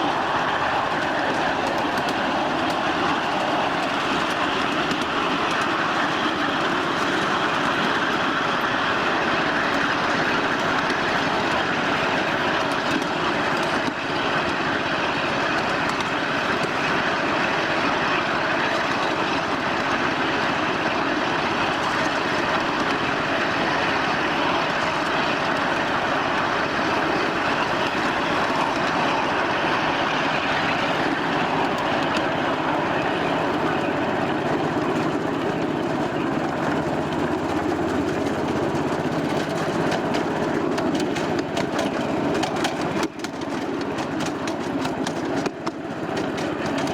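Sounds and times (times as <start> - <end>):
train wheels rolling on rails: 0.0 - 46.9.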